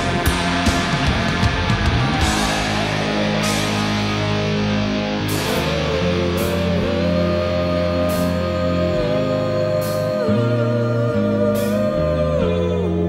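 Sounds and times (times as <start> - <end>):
distorted electric guitar: 0.0 - 13.0
low bass line: 0.0 - 13.0.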